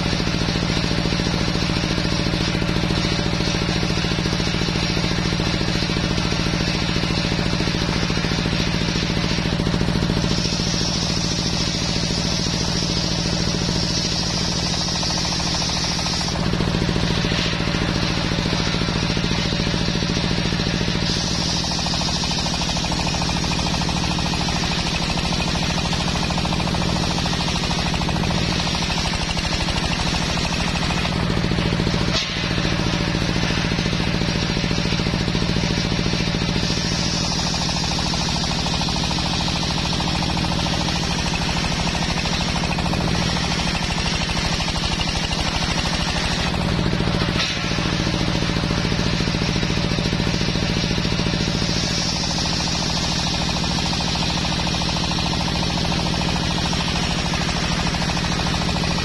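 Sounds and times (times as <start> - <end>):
table saw motor running: 0.0 - 59.0
saw blade cutting wood hiss: 3.0 - 59.0.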